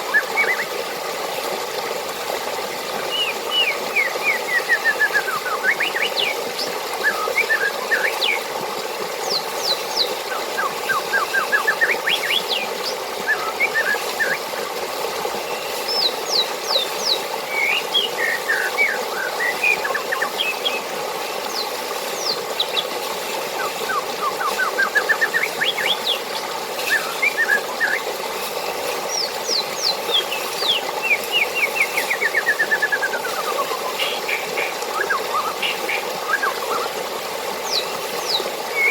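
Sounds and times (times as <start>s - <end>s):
flowing water rushing: 0.0s - 38.9s
songbirds singing: 3.0s - 8.5s, 9.2s - 14.6s, 15.3s - 38.9s.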